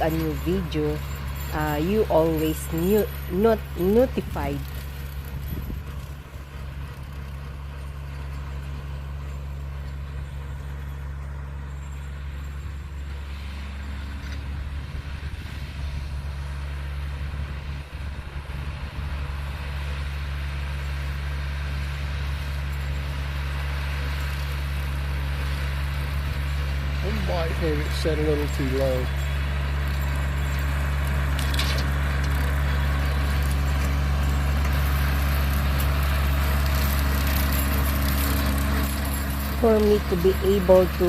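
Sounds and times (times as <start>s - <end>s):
tractor engine running under load: 0.0s - 41.0s.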